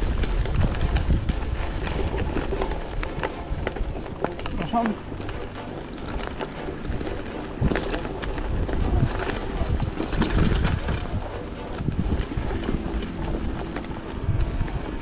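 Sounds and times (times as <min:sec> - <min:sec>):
bicycle knocks and rattles: 0:00.0 - 0:13.4
wind rumbling on microphone: 0:00.0 - 0:15.0.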